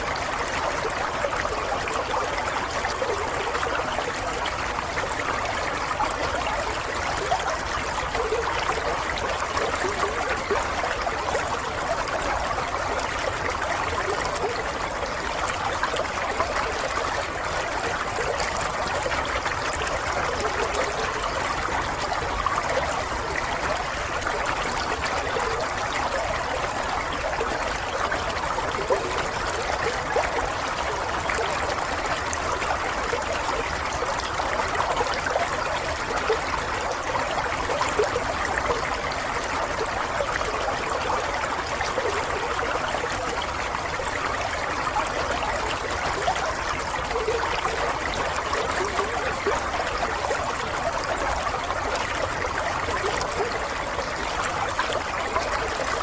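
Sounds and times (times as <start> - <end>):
stream trickling and babbling: 0.0 - 56.0.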